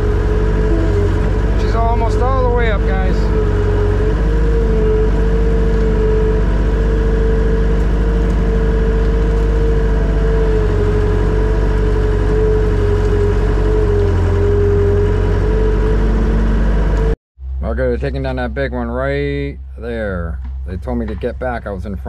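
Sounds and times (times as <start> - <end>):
diesel engine rumbling: 0.0 - 22.0
mid-pitched engine whine: 0.0 - 22.0.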